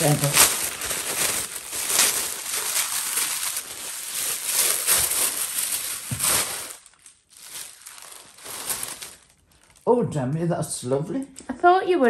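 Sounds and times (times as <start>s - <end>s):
tissue paper crinkling and tearing: 0.0s - 9.9s.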